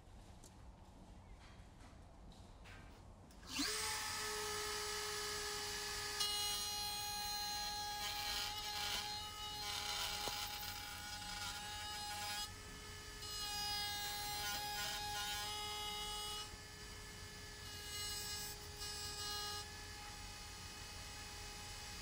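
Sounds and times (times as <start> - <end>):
router bit cutting plywood: 3.4 - 22.0
router whine: 3.4 - 22.0.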